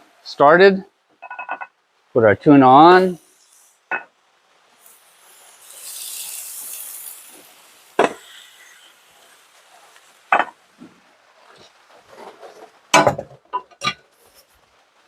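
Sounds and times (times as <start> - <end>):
fish sizzling: 1.7 - 14.8.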